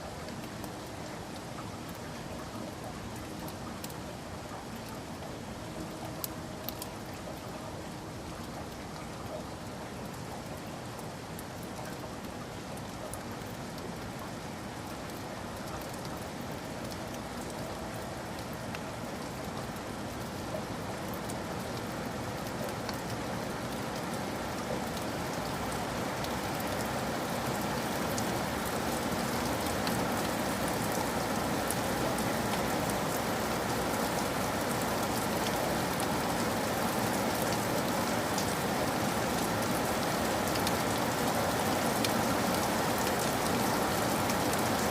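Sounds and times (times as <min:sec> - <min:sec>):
rain pattering on surfaces: 0:00.0 - 0:44.9.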